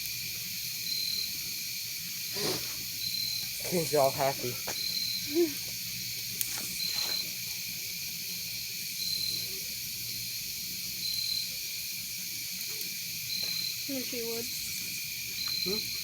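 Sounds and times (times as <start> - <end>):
night insects chorus: 0.0 - 16.0.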